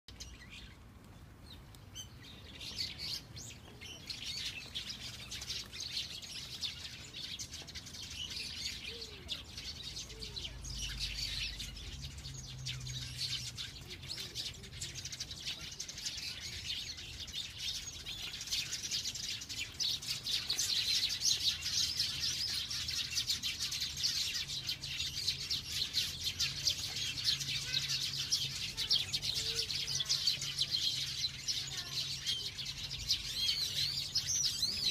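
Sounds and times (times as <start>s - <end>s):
small birds twittering: 0.1s - 34.9s.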